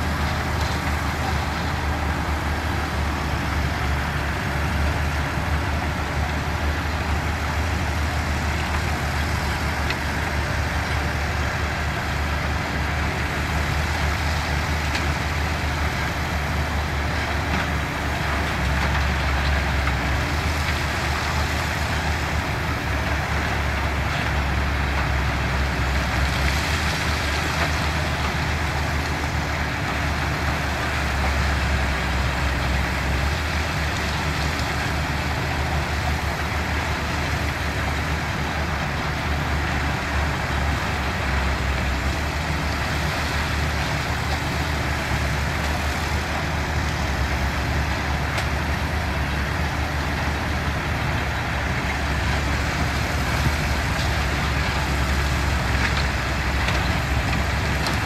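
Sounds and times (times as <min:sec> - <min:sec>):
heavy diesel machinery rumbling: 0:00.0 - 0:58.0.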